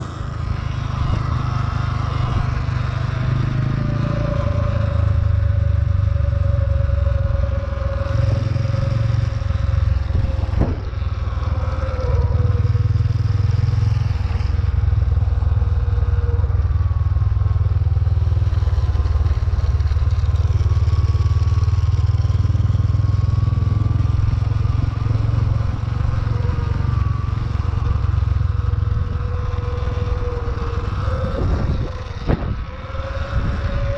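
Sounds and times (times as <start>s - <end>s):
vehicle engine running: 0.0s - 33.9s.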